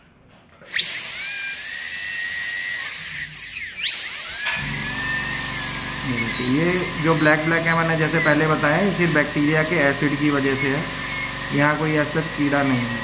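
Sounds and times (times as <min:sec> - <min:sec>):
dental drill whining: 0:00.6 - 0:13.0.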